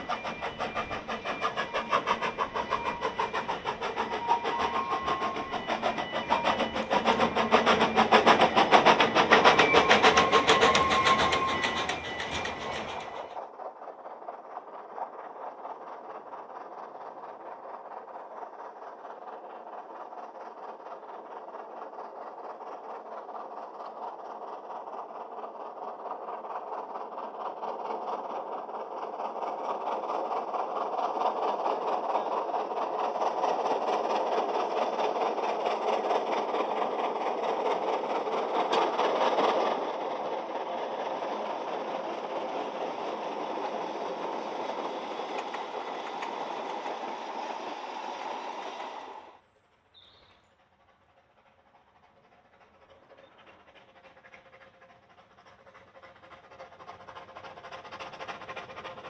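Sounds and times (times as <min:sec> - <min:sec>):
steam train running: 0:00.0 - 0:59.0.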